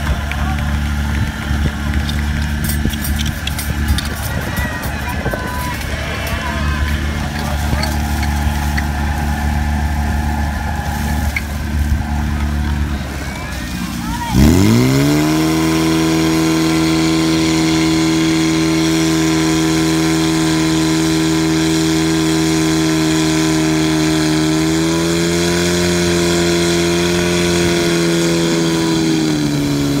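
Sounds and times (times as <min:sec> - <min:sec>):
pump engine running at high revs: 0:00.0 - 0:30.0.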